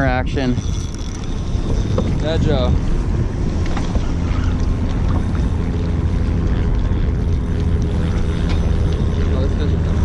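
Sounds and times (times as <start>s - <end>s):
boat motor rumbling: 0.0s - 10.0s
wind buffeting microphone: 0.0s - 10.0s.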